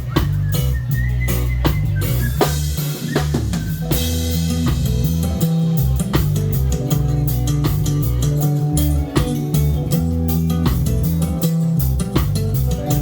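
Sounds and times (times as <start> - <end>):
deep bass line: 0.0 - 13.0
drum kit steady beat: 0.0 - 13.0.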